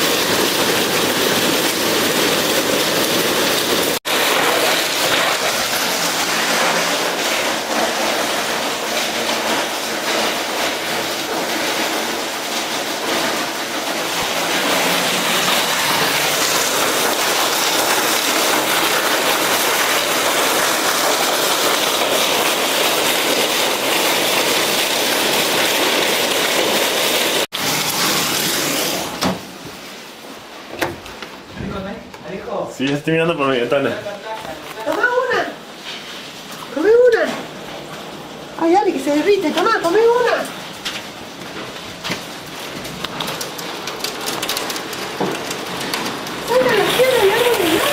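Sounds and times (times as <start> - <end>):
heavy rain and hail: 0.0 - 47.9.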